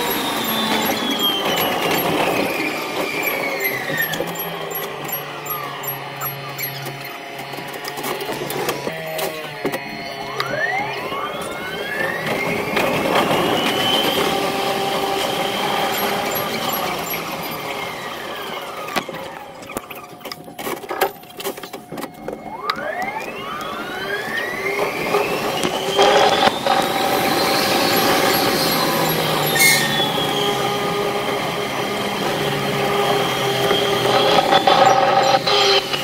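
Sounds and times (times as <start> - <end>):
electric train motor whine: 0.0 - 36.0.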